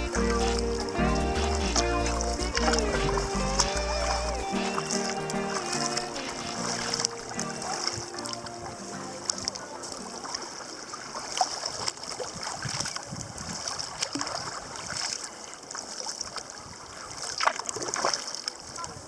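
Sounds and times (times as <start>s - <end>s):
water splashing around kayak: 0.0s - 19.0s.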